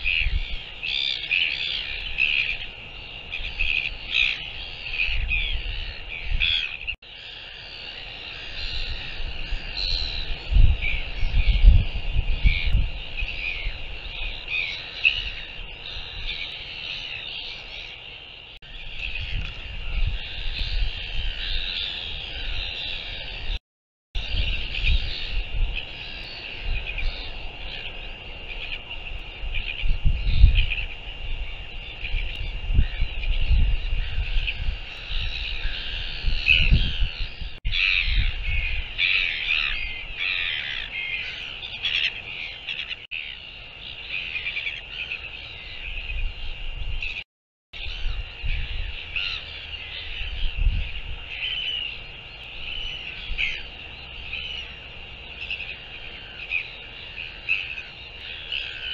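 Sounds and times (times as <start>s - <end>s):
seabirds calling: 0.0s - 23.6s, 24.2s - 47.2s, 47.8s - 58.9s
wind rumbling on microphone: 0.0s - 23.6s, 24.2s - 47.2s, 47.8s - 58.9s.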